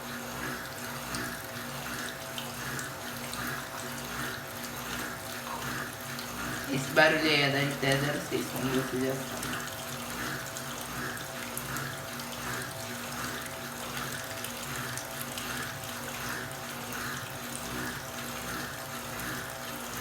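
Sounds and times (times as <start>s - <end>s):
washing machine hum: 0.0s - 20.0s
water running into washing machine: 0.0s - 20.0s.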